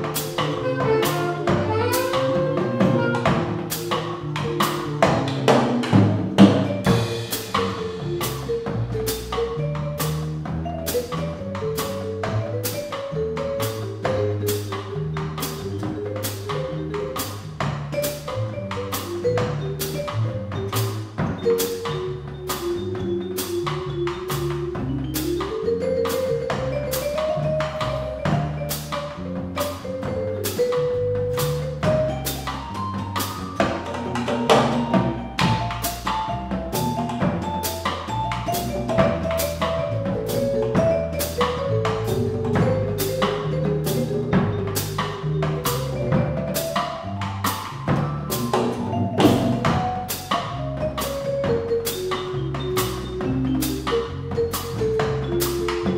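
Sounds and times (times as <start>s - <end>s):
double bass line: 0.0s - 55.9s
drum kit with cymbal strokes: 0.0s - 55.9s
keyboard notes: 0.0s - 55.9s
vibraphone melody: 0.0s - 55.9s.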